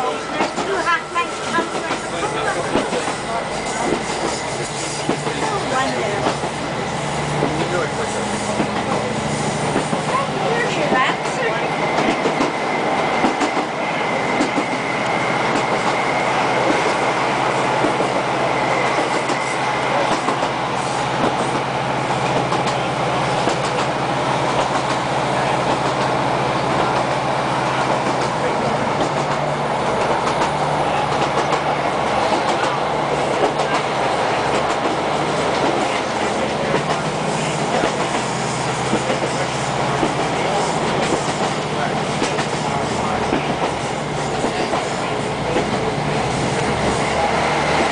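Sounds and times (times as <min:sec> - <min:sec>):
clickety-clack of rail joints: 0:00.0 - 0:47.9
train engine and wheels rumbling: 0:00.0 - 0:47.9.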